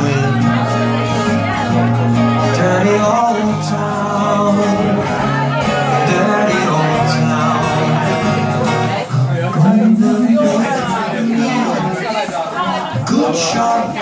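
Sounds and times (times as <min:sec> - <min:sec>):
guitars playing: 0:00.0 - 0:14.0
man singing: 0:00.0 - 0:14.0.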